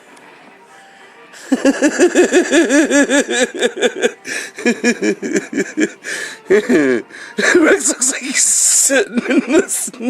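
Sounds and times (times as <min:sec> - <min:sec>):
man laughing hard: 0:01.4 - 0:10.0.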